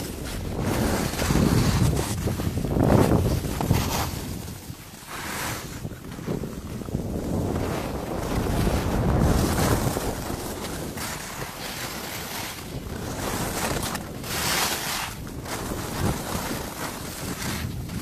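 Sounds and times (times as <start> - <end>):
skis sliding on packed snow: 0.0 - 18.0
wind buffeting microphone: 0.0 - 18.0.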